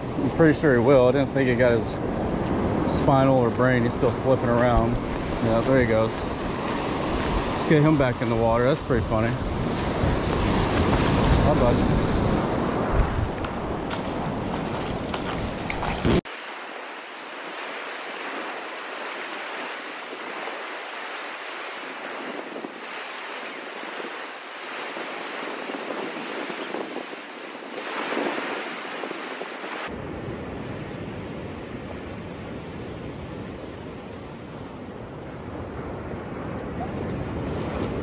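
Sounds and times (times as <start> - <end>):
ocean surf on beach: 0.0 - 38.0.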